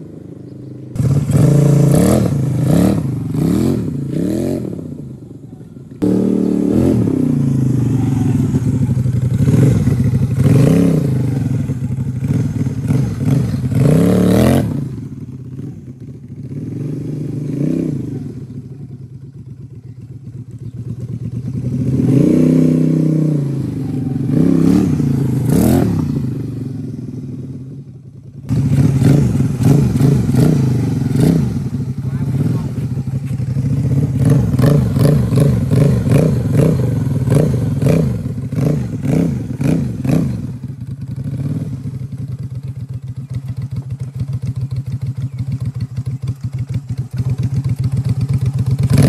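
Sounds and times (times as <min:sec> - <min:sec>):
scooter engine revving: 0:00.0 - 0:49.0.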